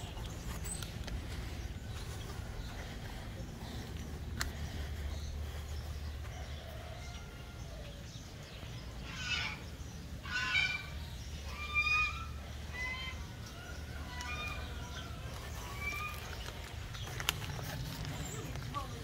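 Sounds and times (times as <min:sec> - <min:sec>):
birds calling: 0:00.0 - 0:19.0
steady low hum: 0:00.0 - 0:19.0.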